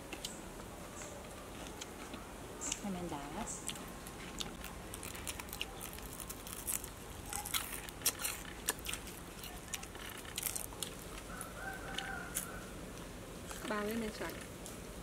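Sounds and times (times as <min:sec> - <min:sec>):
crunching of fried food being chewed: 0:01.0 - 0:02.8, 0:03.4 - 0:14.8.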